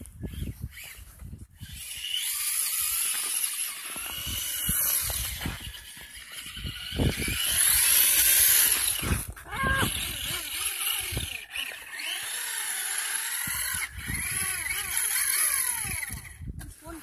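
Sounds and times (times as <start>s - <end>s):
toy truck electric motor whining: 0.0s - 17.0s.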